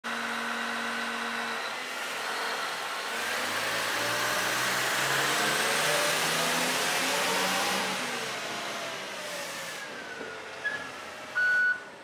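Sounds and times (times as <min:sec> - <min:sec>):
diesel engine whining: 0:00.1 - 0:12.0.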